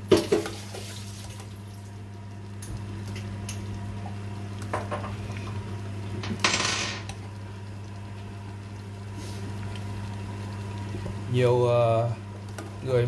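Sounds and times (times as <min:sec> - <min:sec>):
steady low hum: 0:01.1 - 0:13.0.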